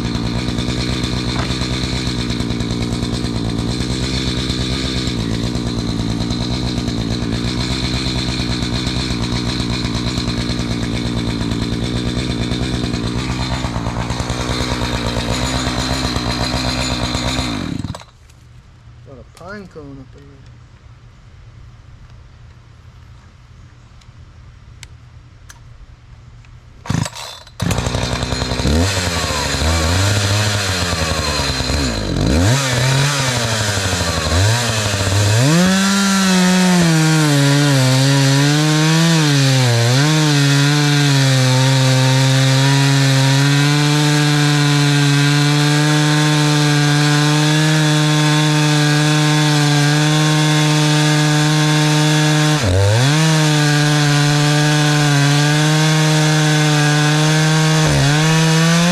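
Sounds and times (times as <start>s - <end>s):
chainsaw engine revving: 0.0s - 18.1s, 26.8s - 58.9s.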